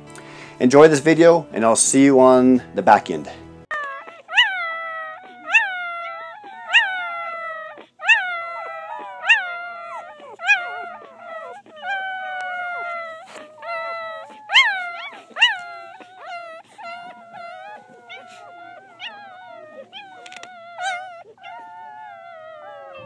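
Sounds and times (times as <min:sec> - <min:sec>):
puppy whimpering and squealing: 0:03.7 - 0:23.0.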